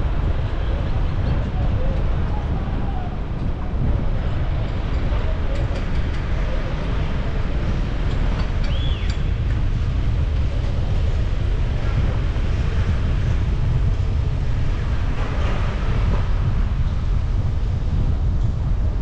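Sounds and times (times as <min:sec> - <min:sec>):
car driving on unpaved road: 0:00.0 - 0:19.0
wind buffeting microphone: 0:00.0 - 0:19.0.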